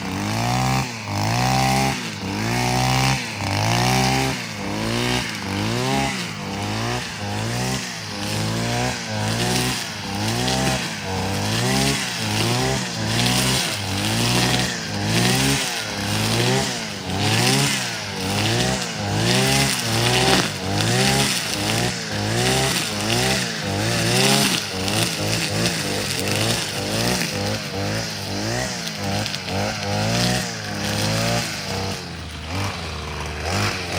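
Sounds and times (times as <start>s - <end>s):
brush cutter engine revving: 0.0s - 33.9s.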